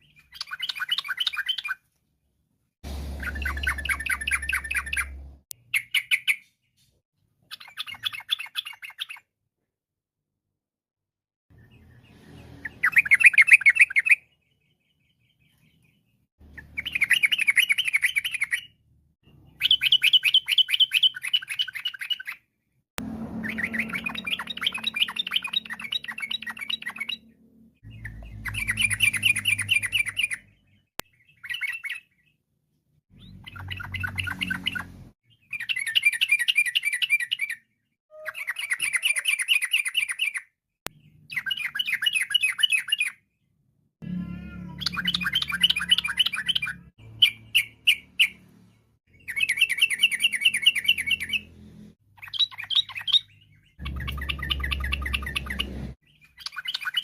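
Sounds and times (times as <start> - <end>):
bird singing trilled phrases: 0.0 - 1.8, 3.2 - 6.7, 7.5 - 9.3, 11.5 - 22.5, 23.4 - 32.4, 33.1 - 43.4, 44.5 - 48.4, 49.1 - 51.5, 52.2 - 57.0.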